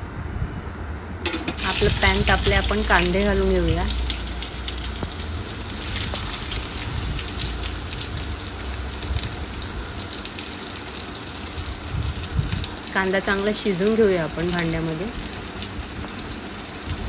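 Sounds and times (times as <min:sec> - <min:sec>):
onions sizzling in hot oil: 0:01.3 - 0:17.0.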